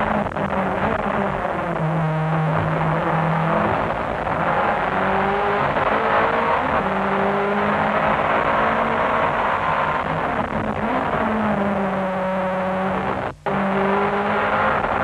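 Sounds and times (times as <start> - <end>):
racing car engine running hard: 0.0 - 15.0.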